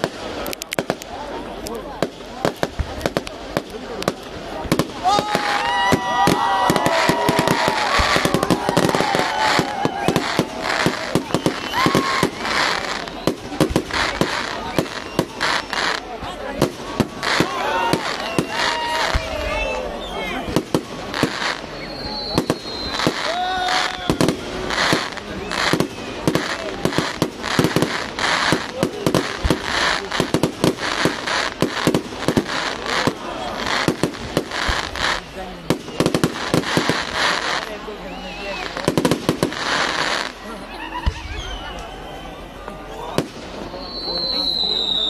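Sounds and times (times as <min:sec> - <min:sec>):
fireworks bangs and crackles: 0:00.0 - 0:42.0, 0:42.9 - 0:45.0.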